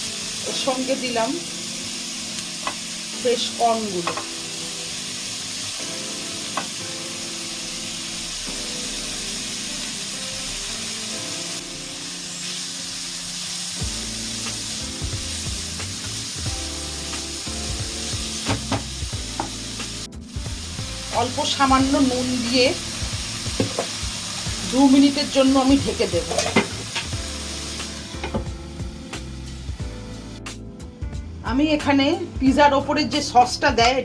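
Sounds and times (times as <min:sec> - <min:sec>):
vegetables sizzling in hot oil: 0:00.0 - 0:34.0.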